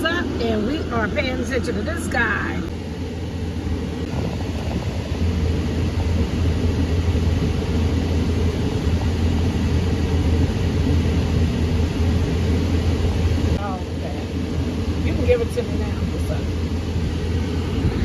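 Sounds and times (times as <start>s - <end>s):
car engine rumble inside cabin: 0.0s - 18.0s.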